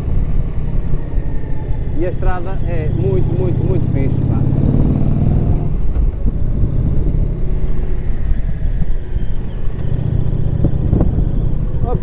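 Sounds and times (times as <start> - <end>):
motorcycle engine running: 0.0 - 12.0
wind rumble: 0.0 - 12.0.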